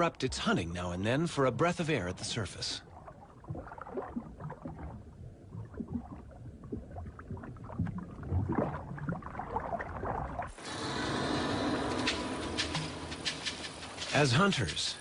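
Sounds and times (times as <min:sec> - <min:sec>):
water sloshing and bubbling: 0:00.0 - 0:15.0.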